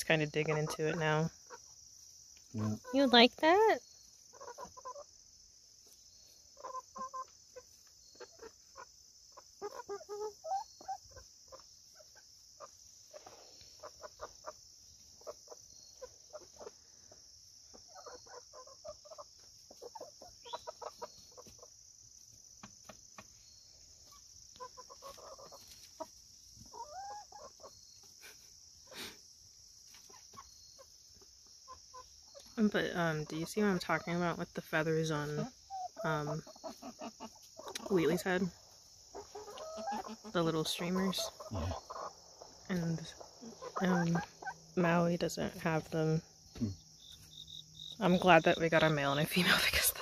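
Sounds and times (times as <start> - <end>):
insects chirring: 0.0 - 50.0
young chickens clucking and trilling: 0.0 - 50.0.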